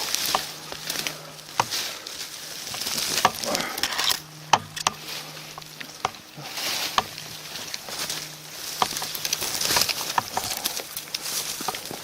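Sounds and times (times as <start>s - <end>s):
footsteps rustling through dry leaves: 0.0s - 12.0s
twigs snapping underfoot: 0.0s - 12.0s.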